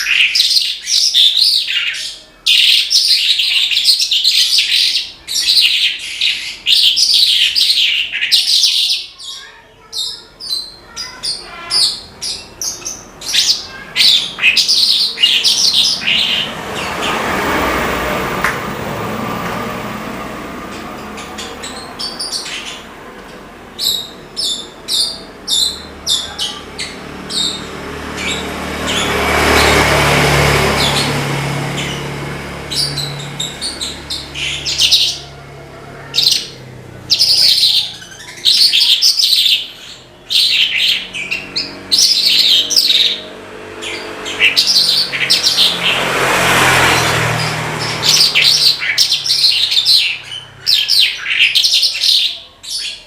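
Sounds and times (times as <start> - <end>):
lark singing: 0.0 - 17.3, 23.8 - 29.8, 32.7 - 35.4, 36.0 - 53.0.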